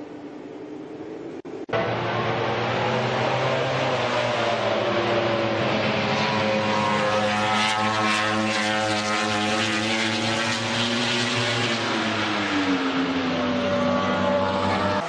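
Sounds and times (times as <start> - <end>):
racing motorcycle engine at high revs: 1.7 - 15.0.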